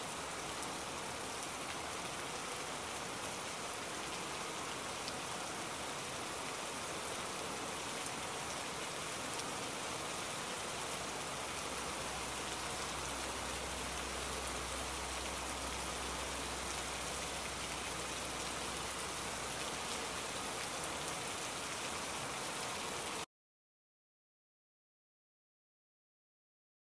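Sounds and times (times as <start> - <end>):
hiss of falling water: 0.0 - 23.2.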